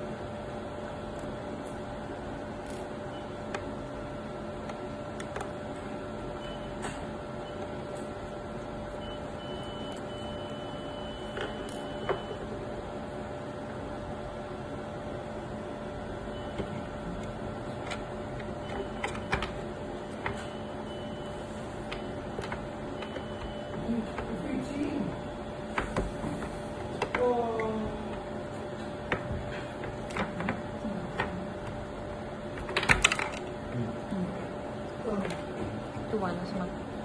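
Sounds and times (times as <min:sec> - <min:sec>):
steady electrical hum: 0:00.0 - 0:37.0.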